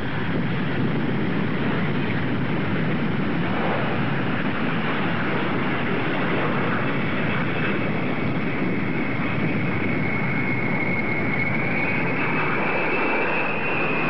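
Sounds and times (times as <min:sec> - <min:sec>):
high whine: 0:00.0 - 0:14.0
jet engines rushing in flight: 0:00.0 - 0:14.0.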